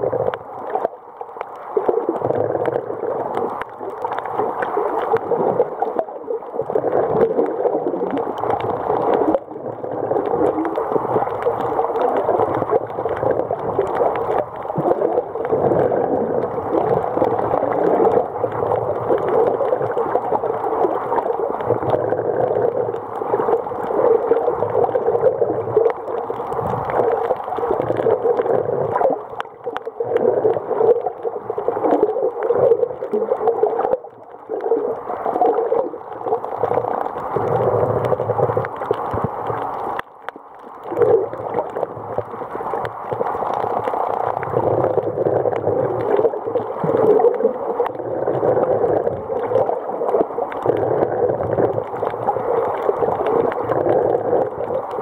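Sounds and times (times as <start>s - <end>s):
muffled underwater rushing: 0.0s - 55.0s.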